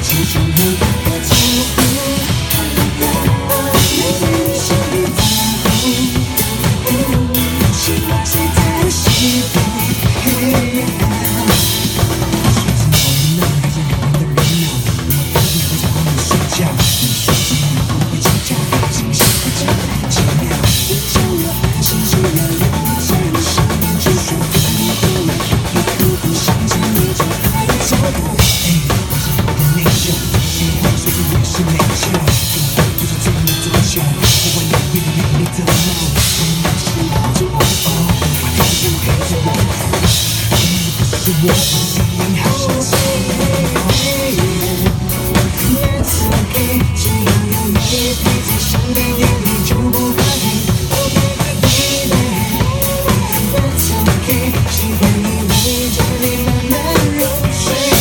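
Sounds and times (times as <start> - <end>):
drum kit beat: 0.0 - 58.0.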